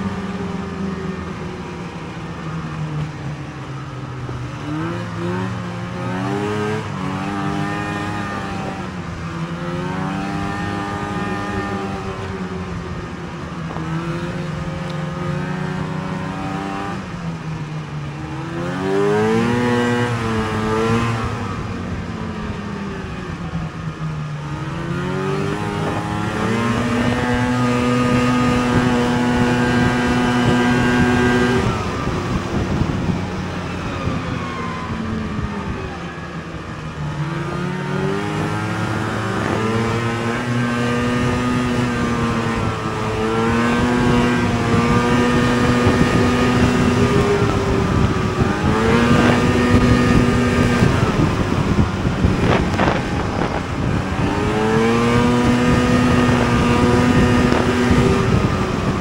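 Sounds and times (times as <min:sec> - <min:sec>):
snowmobile engine revving: 0:04.4 - 0:12.6, 0:13.7 - 0:17.2, 0:18.0 - 0:59.0.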